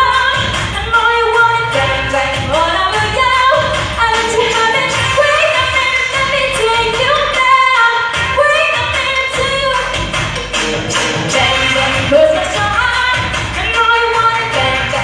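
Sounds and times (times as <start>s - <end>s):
band accompaniment: 0.0s - 15.0s
steady drum beat: 0.0s - 15.0s
woman singing pop song: 0.0s - 15.0s.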